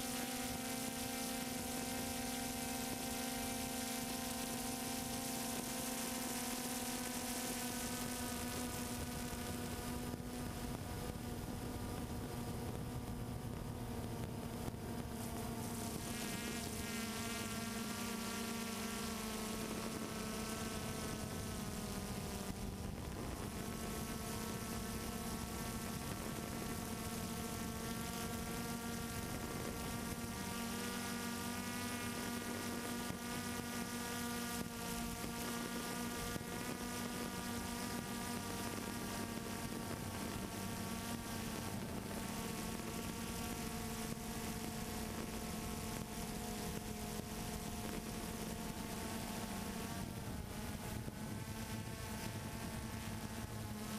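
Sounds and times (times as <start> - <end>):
drone propellers buzzing: 0.0 - 53.9.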